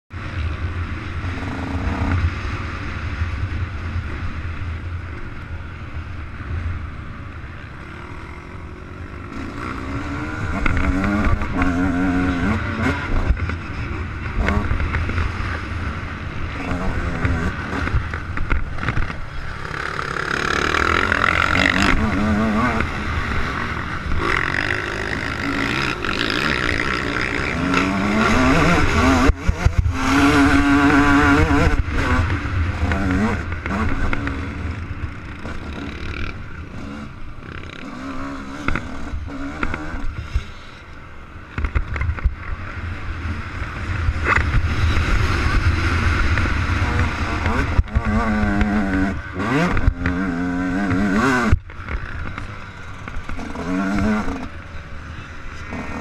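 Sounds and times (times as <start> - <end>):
motocross bike engine revving: 0.2 - 56.0.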